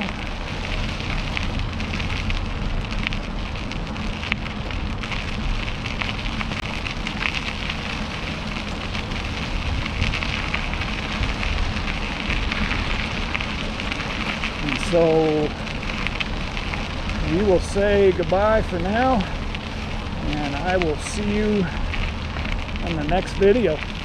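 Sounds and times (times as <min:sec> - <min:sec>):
bike tyres crackling on trail: 0:00.0 - 0:24.0
low rumble: 0:00.0 - 0:24.0.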